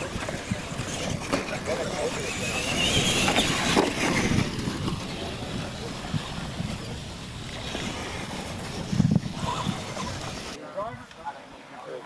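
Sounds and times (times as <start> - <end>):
toy truck electric motors: 0.0 - 10.6
wind noise on microphone: 0.0 - 10.6.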